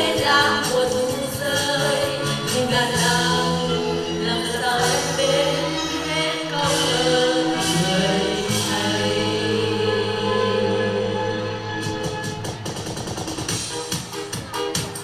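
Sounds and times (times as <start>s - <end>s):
voices singing: 0.0s - 12.5s
backing music with bass line: 0.0s - 15.0s.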